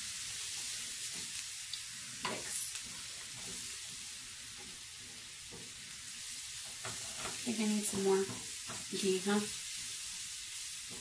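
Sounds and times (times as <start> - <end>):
garlic and spices sizzling in oil: 0.0 - 11.0.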